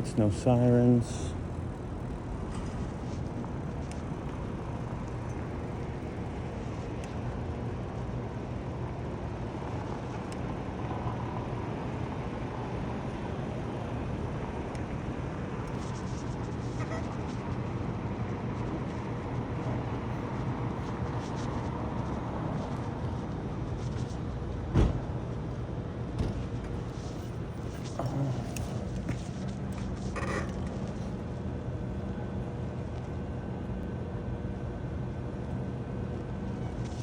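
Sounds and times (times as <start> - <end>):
street traffic rumble: 0.0 - 37.0.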